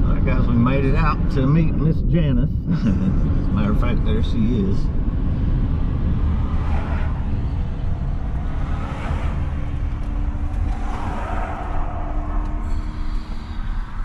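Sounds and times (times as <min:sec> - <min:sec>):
car rumble from inside: 0:00.0 - 0:14.0.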